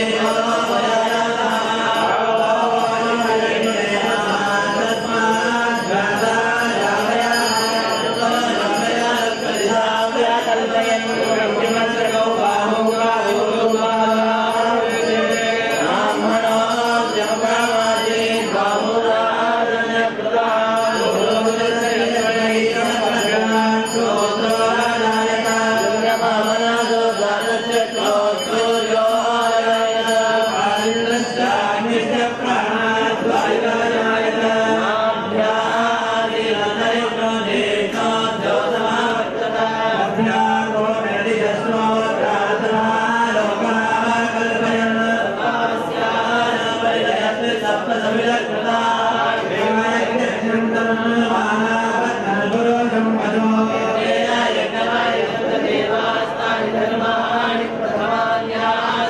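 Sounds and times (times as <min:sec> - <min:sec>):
several voices chanting: 0:00.0 - 0:59.0.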